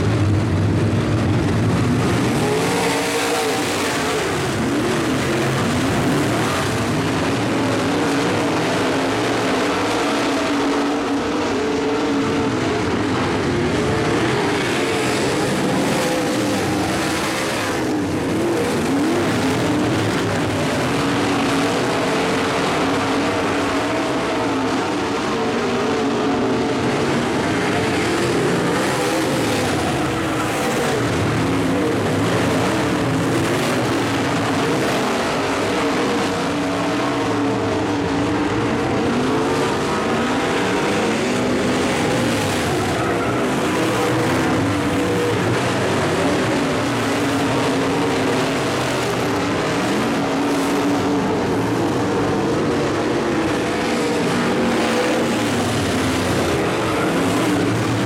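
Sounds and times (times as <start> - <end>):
race car engines: 0.0 - 58.0.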